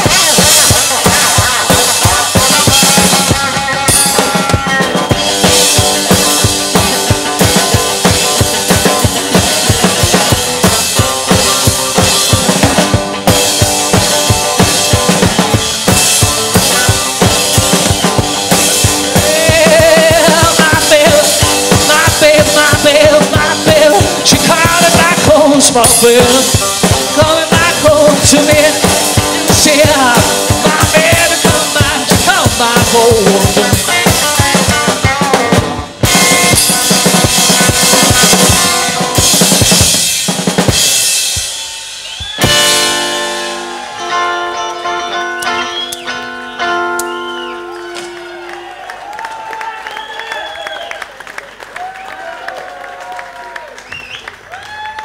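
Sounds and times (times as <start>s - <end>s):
fast driving drum beat: 0.0s - 44.0s
rockabilly band playing: 0.0s - 55.0s.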